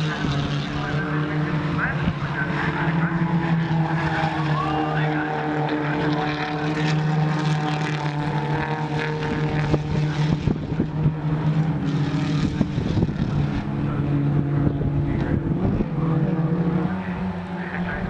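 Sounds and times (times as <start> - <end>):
distant race car engines droning: 0.0 - 18.0
engine crackling: 0.0 - 18.0.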